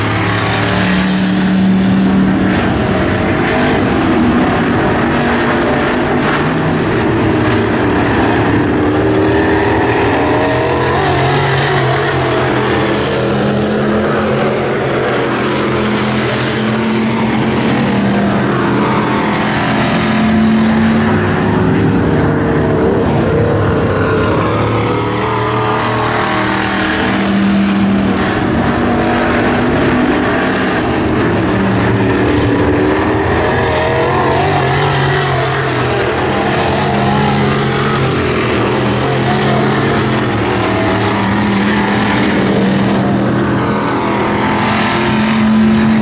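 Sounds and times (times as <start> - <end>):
race car engines passing by: 0.0 - 46.0.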